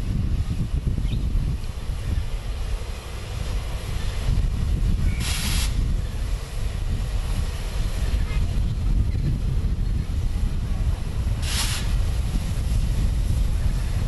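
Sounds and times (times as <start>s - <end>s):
steady low rumble: 0.0s - 14.0s
steam hiss: 0.0s - 14.0s.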